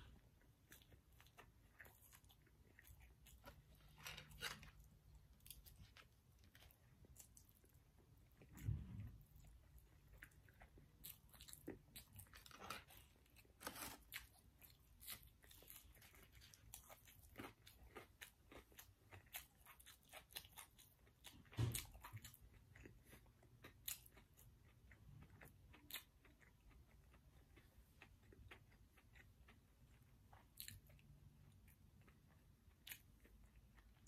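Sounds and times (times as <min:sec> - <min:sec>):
chewing with mouth clicks: 0:00.0 - 0:34.0.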